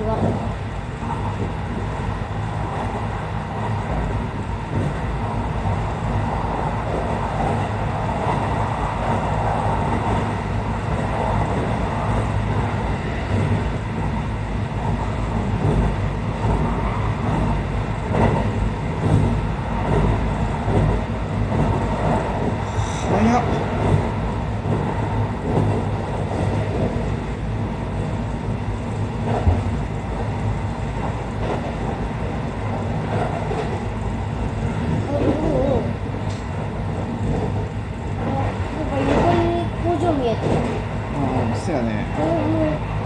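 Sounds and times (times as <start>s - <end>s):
train cabin rumble and hum: 0.0s - 43.0s.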